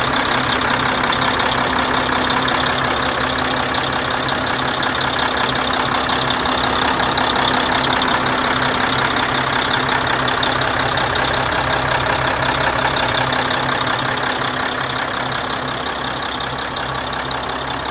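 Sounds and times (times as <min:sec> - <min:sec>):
diesel truck engine idling: 0:00.0 - 0:17.9.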